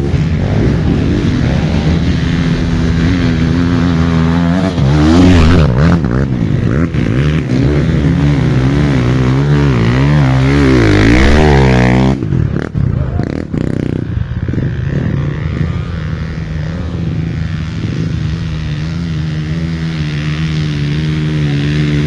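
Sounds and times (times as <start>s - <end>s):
off-road motorcycle engine revving: 0.0s - 22.0s.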